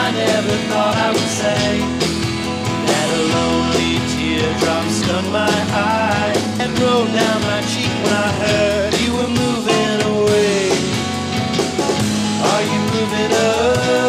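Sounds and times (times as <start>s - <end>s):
rock song with singing: 0.0s - 14.0s.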